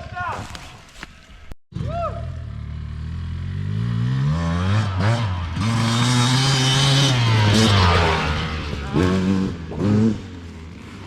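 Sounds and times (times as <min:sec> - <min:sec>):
dirt bike engine accelerating: 0:01.7 - 0:11.0.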